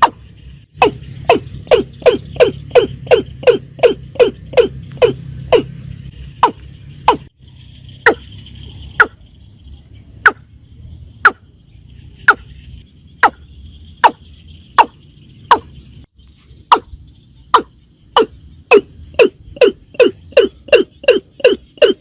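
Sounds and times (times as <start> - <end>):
bird calling: 0.0 - 22.0.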